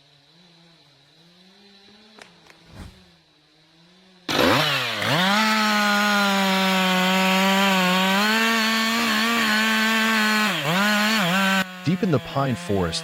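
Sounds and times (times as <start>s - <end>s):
chainsaw engine revving: 0.2s - 13.0s.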